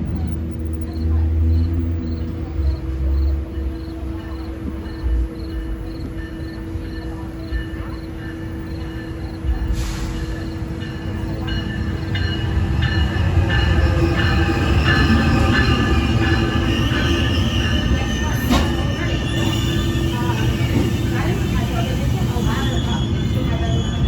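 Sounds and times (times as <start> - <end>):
train rumbling on tracks: 0.0 - 24.0
high ringing from wheels and rails: 0.9 - 24.0.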